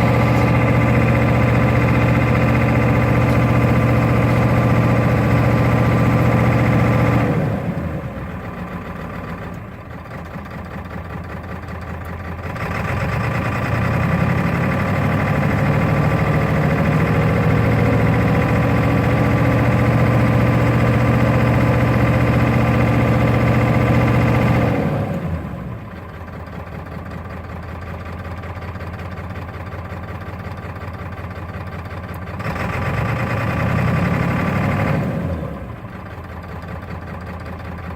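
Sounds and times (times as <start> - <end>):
diesel engine idling rough: 0.0 - 37.9.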